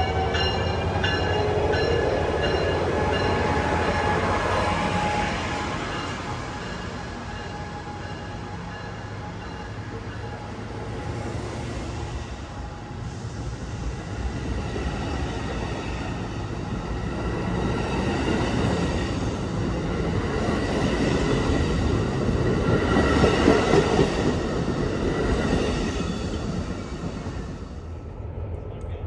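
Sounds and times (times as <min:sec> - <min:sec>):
train wheel and rail noise: 0:00.0 - 0:29.0.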